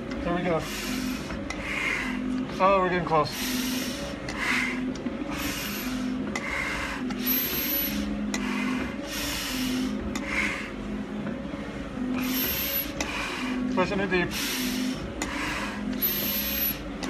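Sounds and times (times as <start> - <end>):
heavy breathing through face mask: 0.5 - 17.0.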